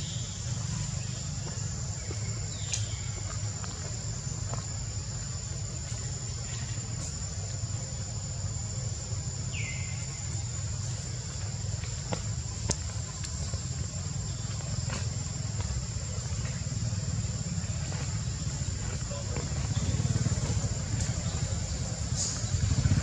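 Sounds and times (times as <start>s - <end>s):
high-pitched insect drone: 0.0s - 23.0s
low steady rumble: 0.0s - 23.0s.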